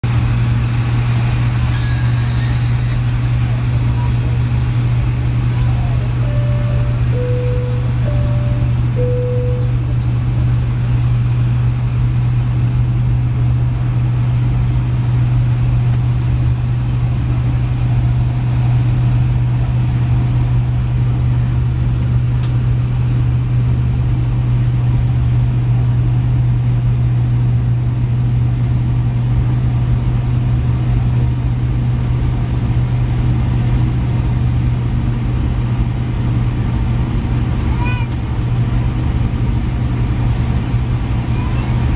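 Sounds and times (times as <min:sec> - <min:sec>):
airliner cabin engine drone: 0:00.0 - 0:41.9.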